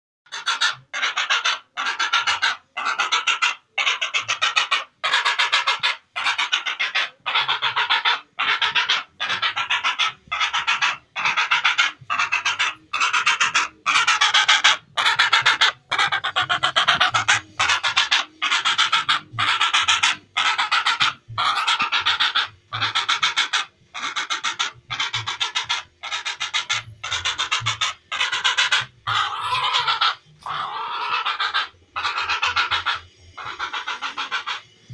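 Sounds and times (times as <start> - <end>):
heron rasping calls: 0.3 - 34.9.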